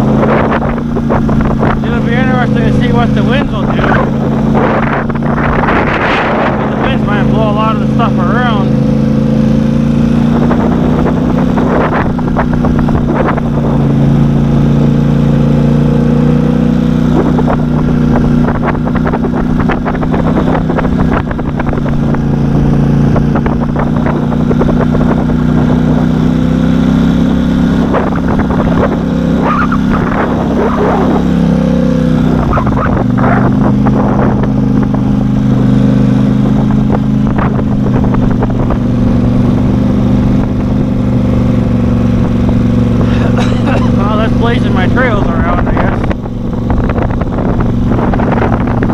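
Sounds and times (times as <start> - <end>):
off-road vehicle engine running: 0.0 - 48.9.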